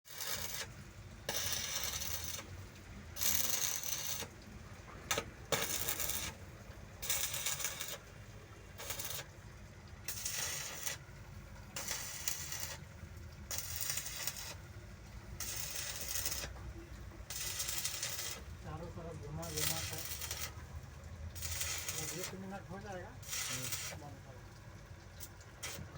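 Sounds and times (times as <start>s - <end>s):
welding arc crackling: 0.1s - 24.6s, 25.2s - 25.9s.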